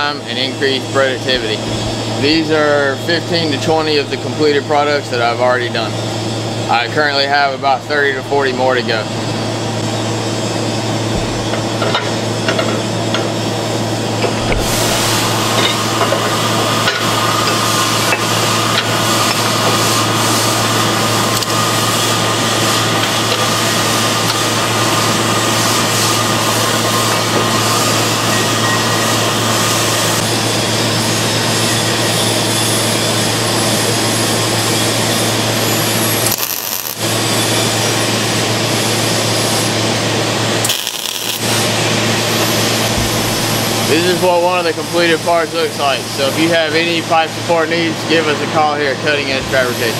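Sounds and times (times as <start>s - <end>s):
crackling hiss of metalworking: 0.0s - 49.9s
electrical hum: 0.0s - 49.9s.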